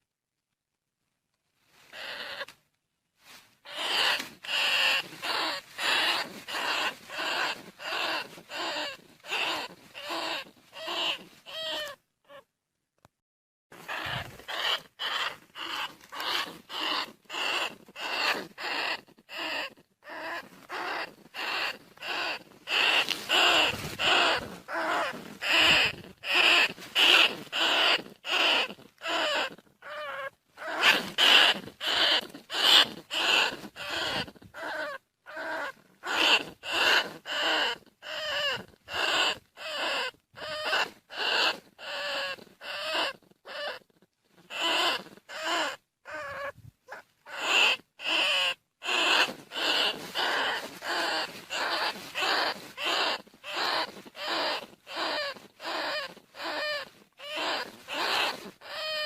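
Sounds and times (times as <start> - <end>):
rat squeaking: 1.9 - 2.5, 3.6 - 12.5, 13.8 - 59.0.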